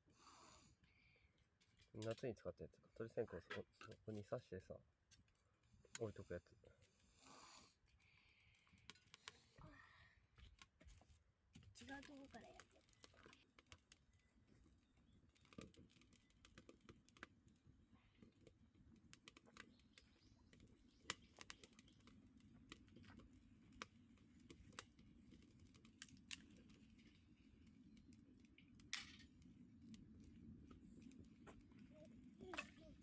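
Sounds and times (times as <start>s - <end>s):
wood fire crackling: 3.4s - 33.0s.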